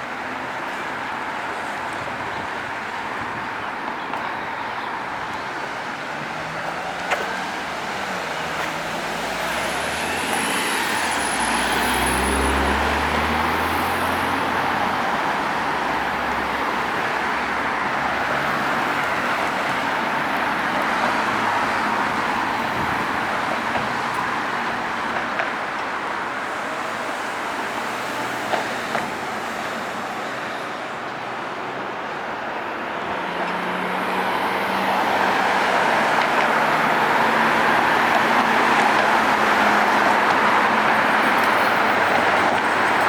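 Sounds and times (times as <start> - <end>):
passing cars: 0.0 - 43.0.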